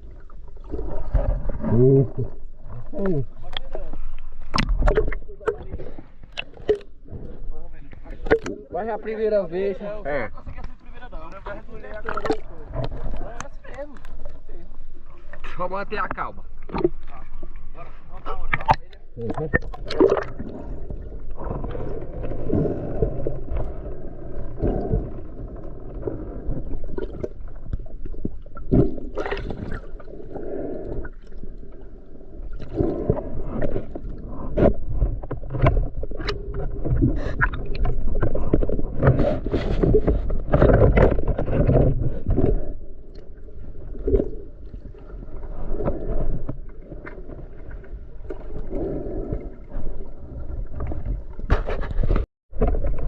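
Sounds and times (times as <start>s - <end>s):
water sloshing and splashing: 0.0s - 53.0s.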